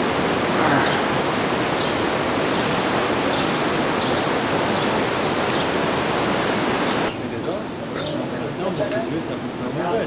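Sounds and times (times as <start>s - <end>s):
river torrent rushing: 0.0s - 10.0s.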